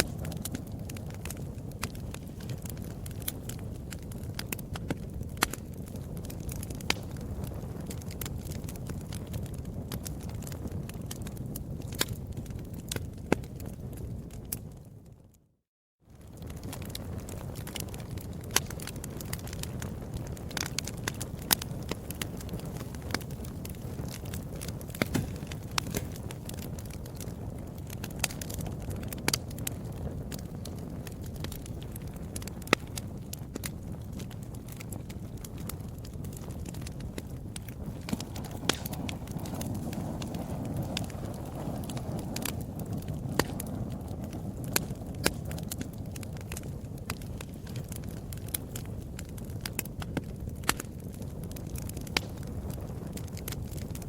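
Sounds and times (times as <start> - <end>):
pops and snaps of fire: 0.0 - 14.9, 16.1 - 54.0
wood fire crackling: 0.0 - 15.4, 16.1 - 54.0.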